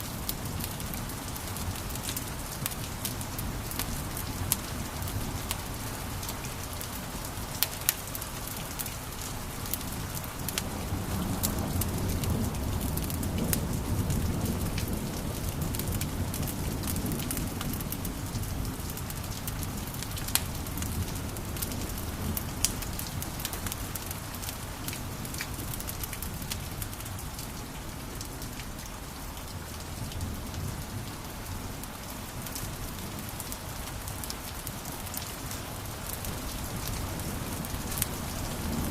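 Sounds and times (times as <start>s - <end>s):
wood fire crackling: 0.0s - 27.6s, 31.8s - 38.9s
low rumble of flames: 0.1s - 27.6s, 32.5s - 38.9s.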